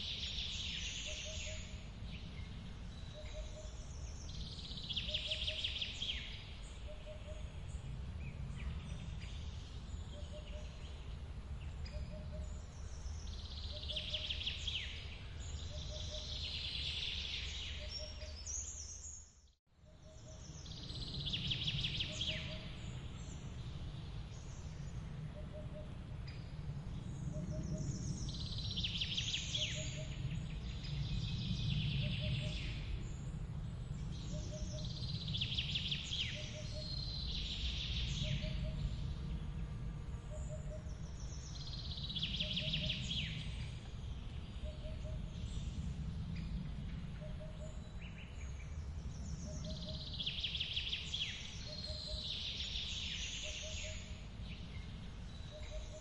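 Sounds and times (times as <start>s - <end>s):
bird calls: 0.0s - 1.9s, 3.0s - 7.7s, 8.6s - 11.1s, 11.8s - 19.2s, 20.0s - 23.4s, 27.2s - 33.0s, 34.1s - 39.0s, 40.3s - 45.8s, 46.4s - 56.0s.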